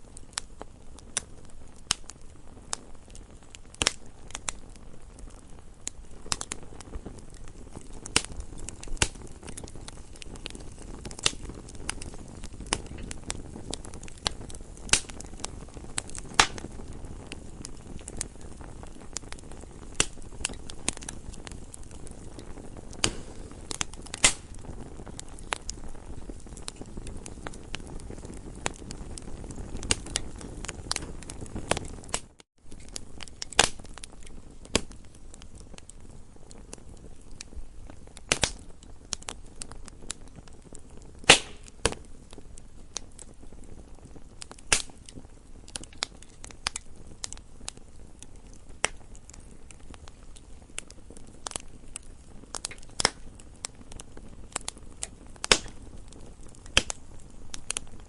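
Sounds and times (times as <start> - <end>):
campfire crackling and popping: 0.0 - 58.0
low steady fire hiss: 0.0 - 58.0.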